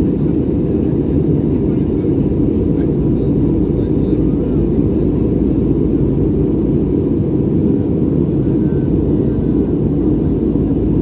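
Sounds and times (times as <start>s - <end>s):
airplane cabin roar: 0.0s - 11.0s.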